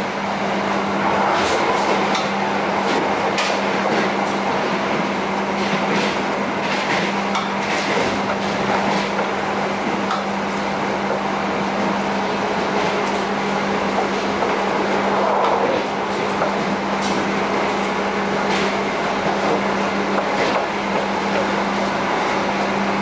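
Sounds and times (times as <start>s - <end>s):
moving train running noise: 0.0s - 23.0s.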